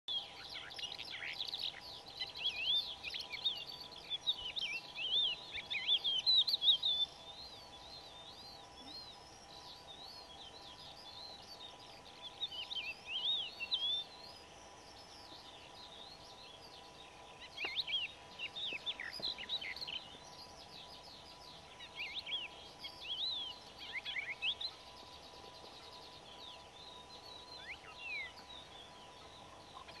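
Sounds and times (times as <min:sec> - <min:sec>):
lark singing whistled notes: 0:00.1 - 0:30.0.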